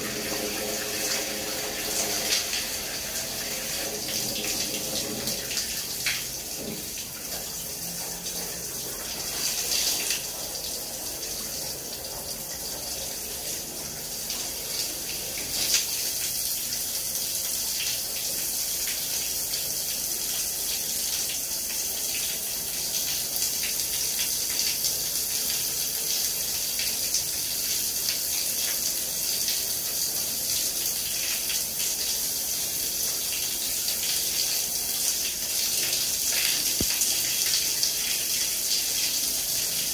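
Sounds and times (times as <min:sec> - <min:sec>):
shower water splashing on tiles: 0:00.0 - 0:39.9.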